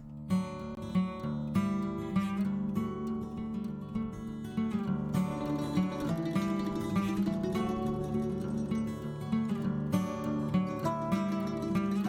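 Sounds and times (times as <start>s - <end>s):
acoustic guitar strummed and plucked: 0.0s - 12.0s.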